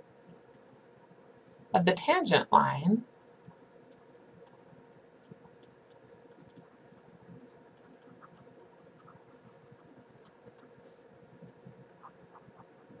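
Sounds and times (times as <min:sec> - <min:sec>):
stylus writing on tablet: 0:00.3 - 0:13.0.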